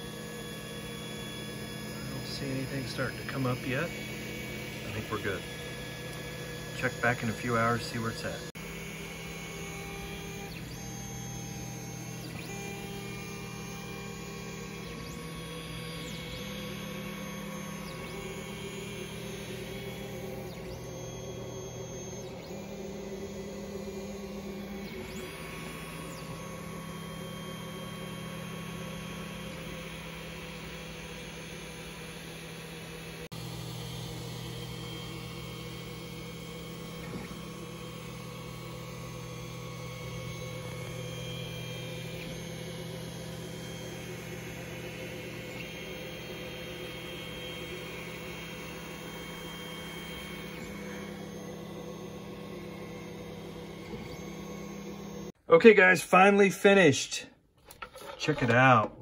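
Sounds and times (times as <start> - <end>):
stepper motors whining: 0.0 - 55.4.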